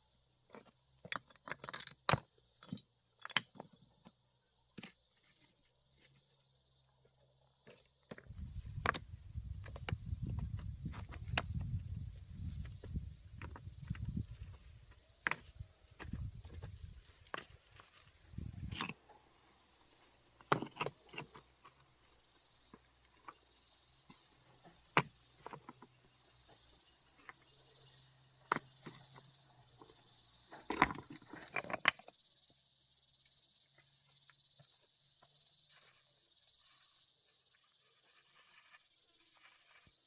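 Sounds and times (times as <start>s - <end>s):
crickets droning: 0.0s - 40.0s.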